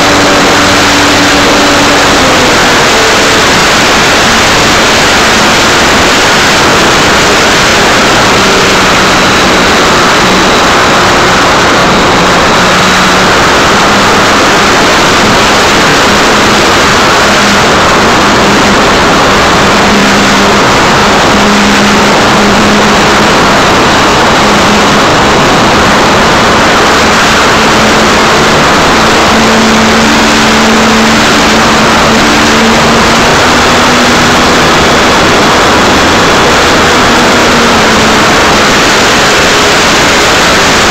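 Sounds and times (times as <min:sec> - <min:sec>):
loud wind rush: 0:00.0 - 0:40.9.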